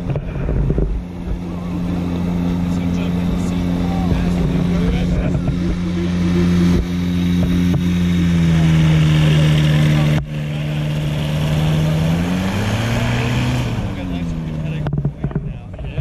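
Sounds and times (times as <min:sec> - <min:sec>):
paramotor engine drone: 0:00.0 - 0:16.0.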